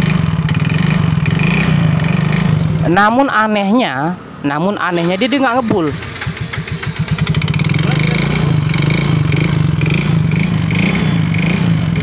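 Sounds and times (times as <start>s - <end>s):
scooter engine running roughly: 0.0s - 3.0s, 4.9s - 12.0s.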